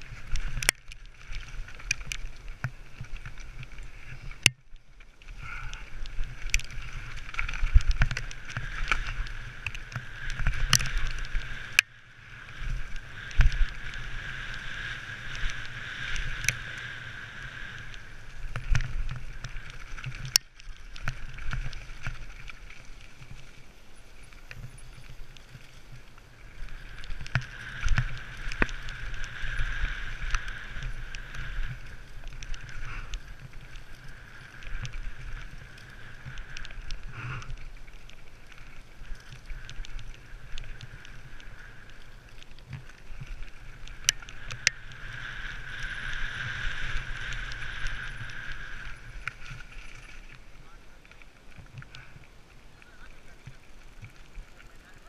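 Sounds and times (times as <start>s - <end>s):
bike rattling over rocks: 0.0s - 55.0s
wind rumble on microphone: 0.0s - 55.0s.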